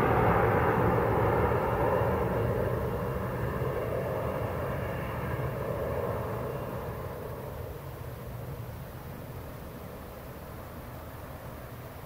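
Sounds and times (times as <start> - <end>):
jet rumble with faint whine: 0.0 - 12.0.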